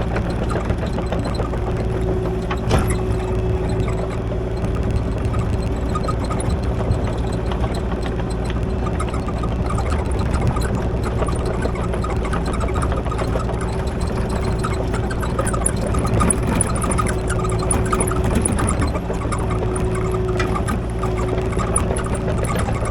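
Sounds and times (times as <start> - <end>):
constant tone: 0.0 - 22.9
excavator diesel engine running: 0.0 - 22.9
small clanks and rattles: 0.0 - 22.9.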